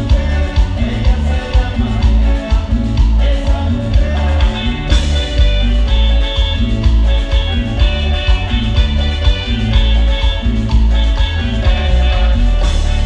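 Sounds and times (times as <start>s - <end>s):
congas and timbales: 0.0s - 13.0s
heavy bass line: 0.0s - 13.0s
live dance band playing: 0.0s - 13.0s.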